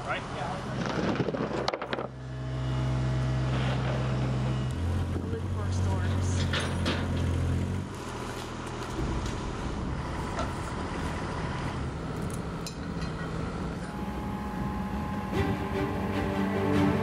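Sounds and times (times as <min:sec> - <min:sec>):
loader engine running: 0:00.0 - 0:17.0.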